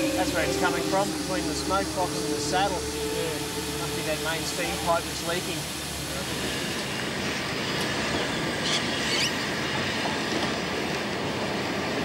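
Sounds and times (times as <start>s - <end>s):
steam locomotive rushing: 0.0s - 12.0s.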